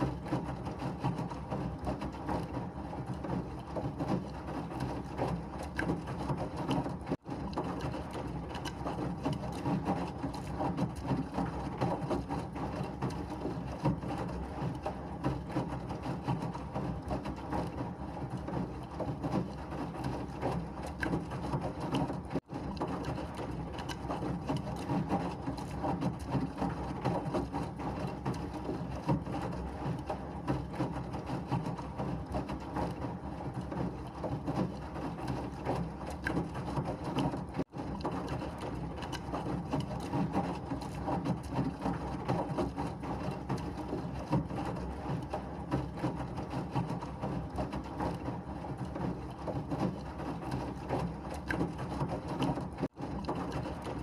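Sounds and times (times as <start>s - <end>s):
washing machine churning: 0.0s - 54.0s.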